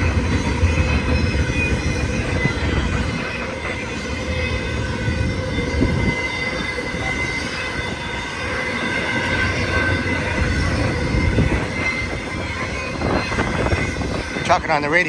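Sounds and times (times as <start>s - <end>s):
high wheel squeal: 0.0s - 15.0s
train wheels rumbling on rail: 0.0s - 15.0s.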